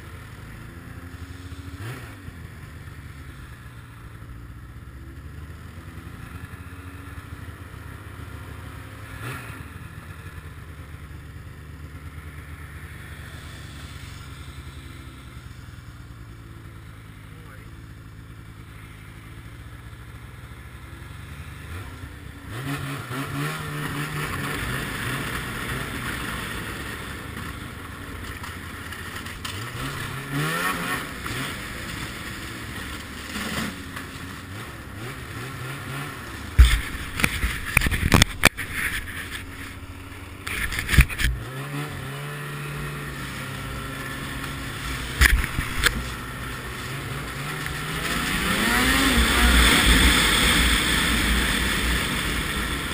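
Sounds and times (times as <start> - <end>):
snowmobile engine revving: 0.0 - 3.9, 5.1 - 15.7, 20.8 - 52.9.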